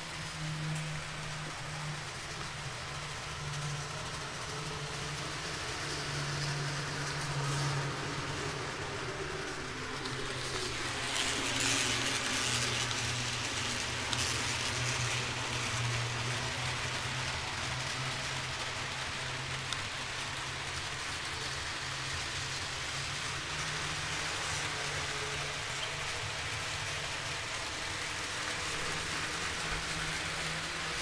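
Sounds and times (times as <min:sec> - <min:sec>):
toy train motor hum: 0:00.0 - 0:31.0
wheels hissing on track: 0:00.0 - 0:31.0.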